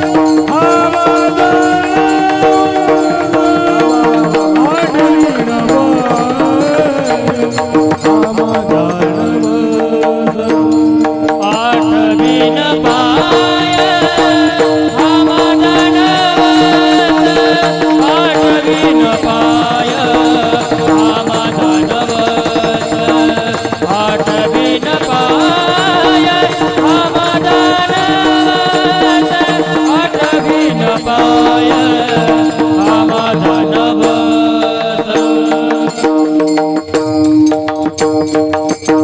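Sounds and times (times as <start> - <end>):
light hand percussion: 0.0 - 39.0.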